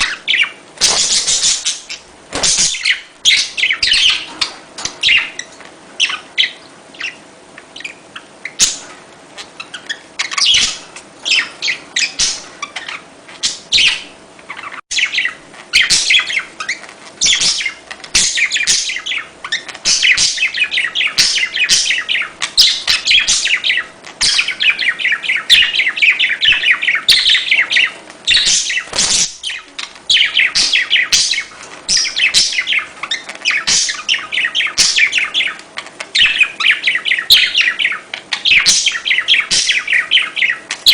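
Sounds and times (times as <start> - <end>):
budgerigars chattering and warbling: 0.0 - 40.9.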